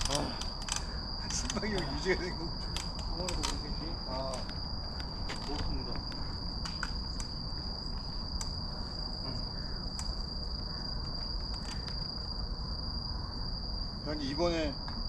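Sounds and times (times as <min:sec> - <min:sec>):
insects trilling: 0:00.0 - 0:15.0
wind and riding noise rumble: 0:00.0 - 0:15.0.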